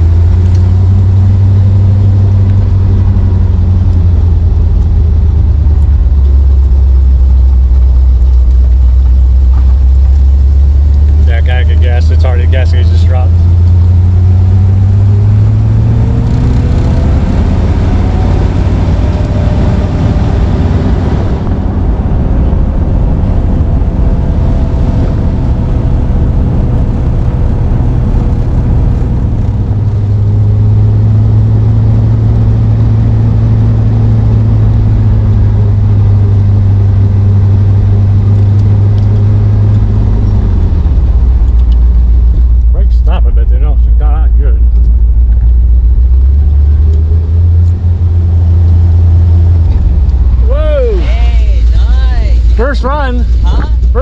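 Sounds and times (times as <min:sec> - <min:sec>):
car engine driving: 0:00.0 - 0:54.0.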